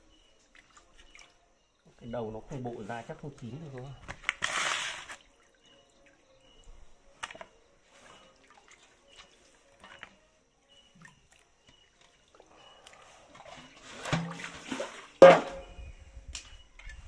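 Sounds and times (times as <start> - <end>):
water drips and splashes: 0.2 - 2.0, 2.6 - 15.7.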